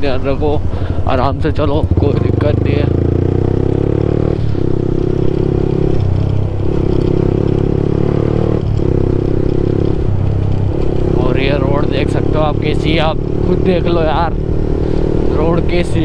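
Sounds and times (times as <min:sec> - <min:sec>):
motorcycle engine accelerating: 0:01.4 - 0:16.0.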